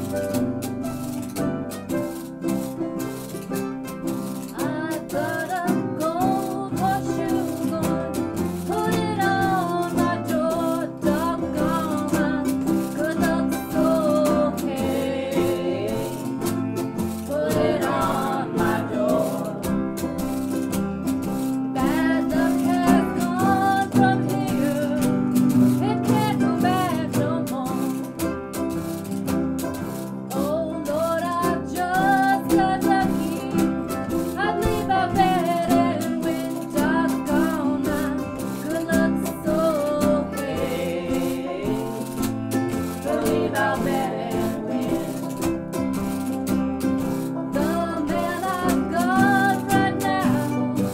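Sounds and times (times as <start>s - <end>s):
acoustic guitar strumming: 0.0s - 50.9s
sliding melody line: 0.0s - 50.9s.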